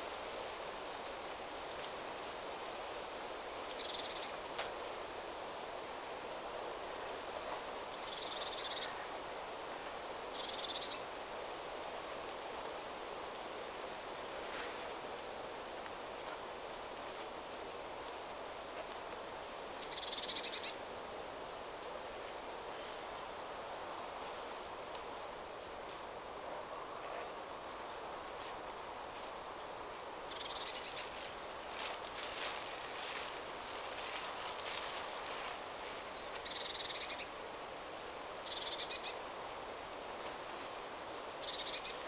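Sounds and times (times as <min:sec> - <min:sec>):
wind rustling through trees: 0:00.0 - 0:42.0.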